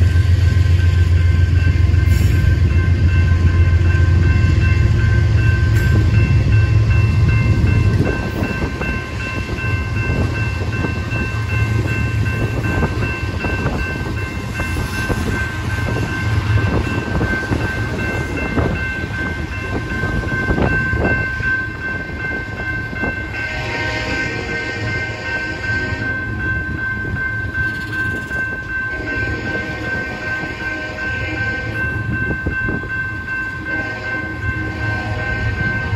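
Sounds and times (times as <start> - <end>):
crossing warning bell: 0.0 - 35.9.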